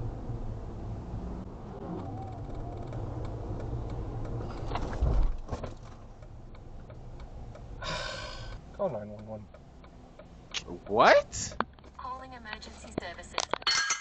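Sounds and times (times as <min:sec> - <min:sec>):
car road and engine rumble: 0:00.0 - 0:13.7.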